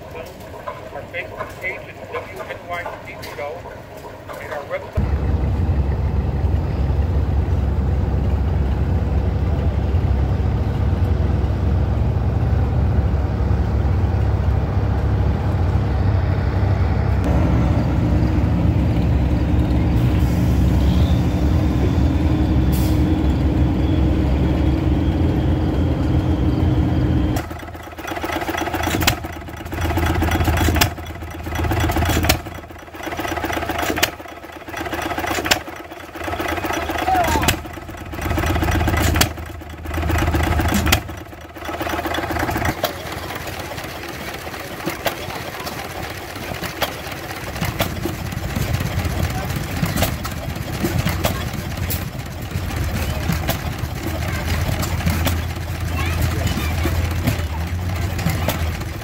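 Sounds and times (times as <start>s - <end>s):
hit-and-miss engine running: 0.0s - 59.0s
large gas engine running: 0.0s - 59.0s.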